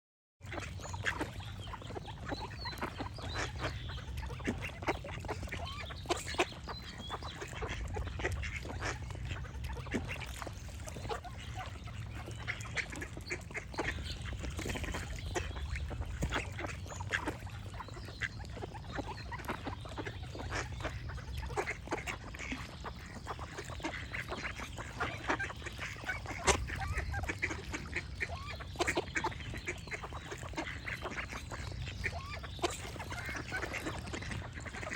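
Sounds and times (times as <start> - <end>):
ducks quacking: 0.4 - 34.9.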